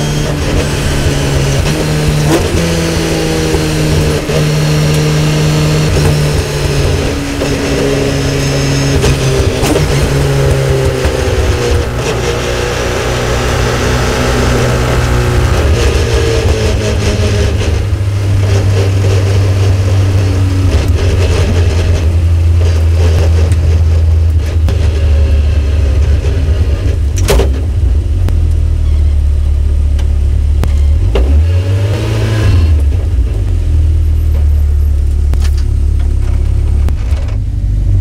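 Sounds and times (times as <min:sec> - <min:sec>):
car engine idling: 0:00.0 - 0:31.3, 0:32.8 - 0:38.0.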